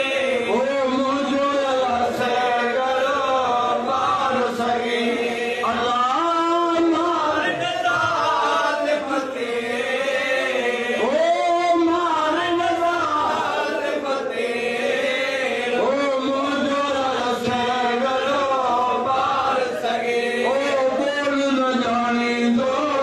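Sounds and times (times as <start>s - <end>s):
men chanting together: 0.0s - 23.0s.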